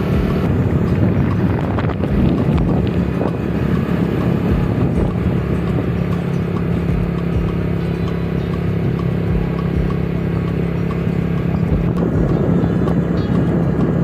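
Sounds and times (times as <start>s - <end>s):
vehicle engine running: 0.0s - 14.0s
wind buffeting microphone: 0.0s - 14.0s.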